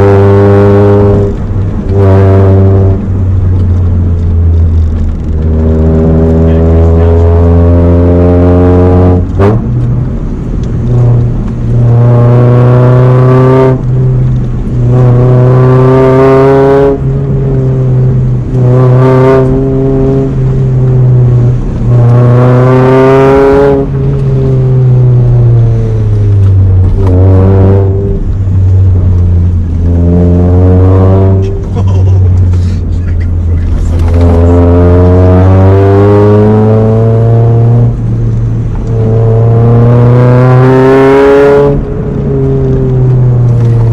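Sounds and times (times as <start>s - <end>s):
car engine accelerating hard: 0.0s - 43.9s.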